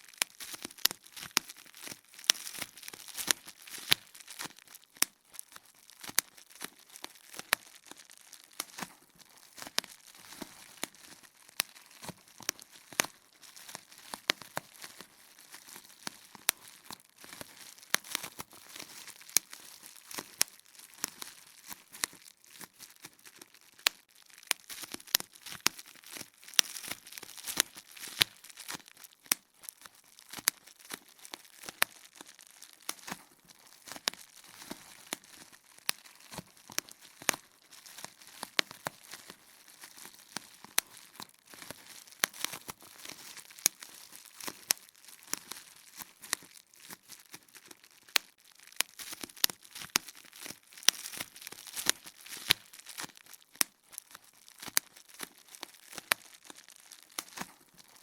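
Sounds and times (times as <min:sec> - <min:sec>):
bubble wrap popping: 0:00.0 - 0:58.0
plastic crinkling: 0:00.0 - 0:58.0.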